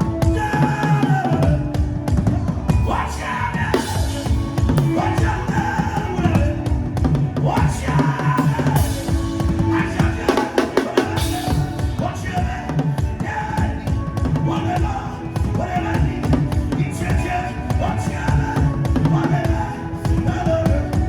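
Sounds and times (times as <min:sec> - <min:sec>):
fast dense drumming: 0:03.7 - 0:21.0.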